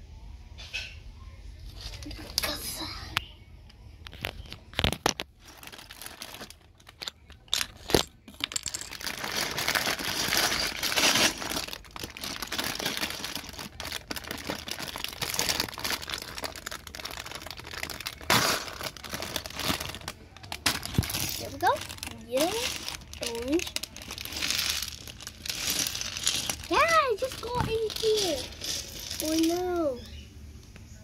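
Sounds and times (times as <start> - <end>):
rustling and crinkling: 1.6 - 2.7, 4.0 - 30.2.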